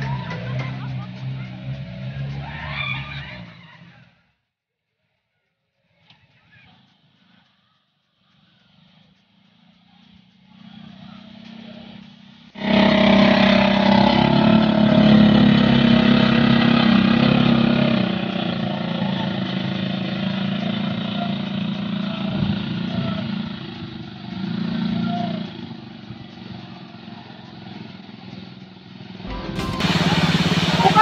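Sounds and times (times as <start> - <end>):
off-road vehicle engines running: 0.0 - 4.4, 5.6 - 31.0.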